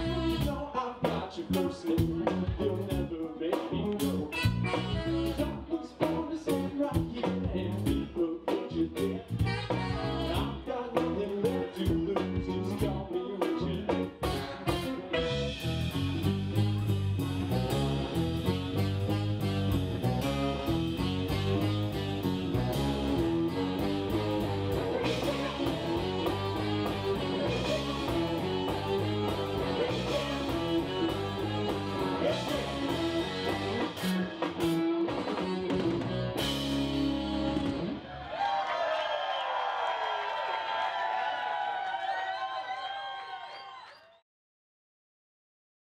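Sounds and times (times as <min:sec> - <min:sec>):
drum kit beat: 0:00.0 - 0:38.0
electric guitar: 0:00.0 - 0:38.2.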